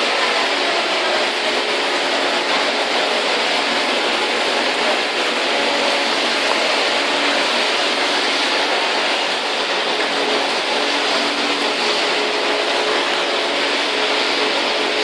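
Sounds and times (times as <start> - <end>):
crowd noise: 0.0 - 15.0.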